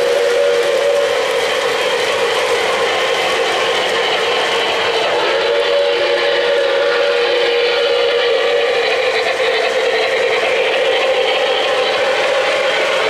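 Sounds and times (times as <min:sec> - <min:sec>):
model trains running: 0:00.0 - 0:13.0.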